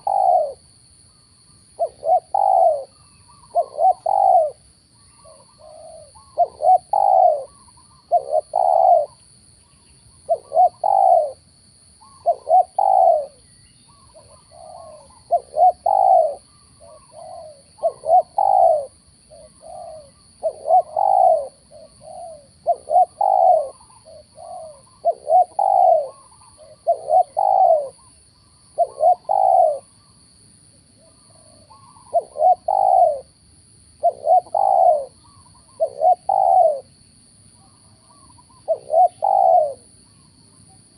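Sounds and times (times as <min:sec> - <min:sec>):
dove cooing: 0:00.0 - 0:00.7, 0:01.8 - 0:09.2, 0:10.3 - 0:11.4, 0:12.0 - 0:30.1, 0:31.0 - 0:33.4, 0:34.0 - 0:36.9, 0:37.6 - 0:40.9.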